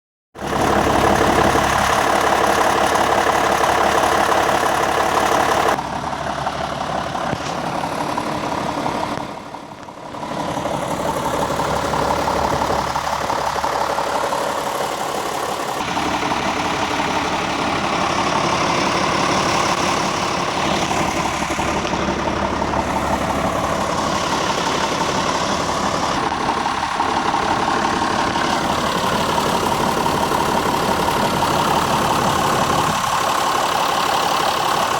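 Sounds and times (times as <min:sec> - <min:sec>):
tractor diesel engine idling: 0:00.4 - 0:34.9.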